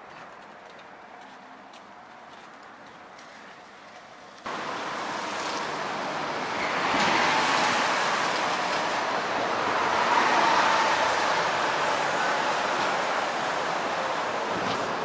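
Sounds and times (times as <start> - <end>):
trucks and cars passing: 0.0 - 15.0.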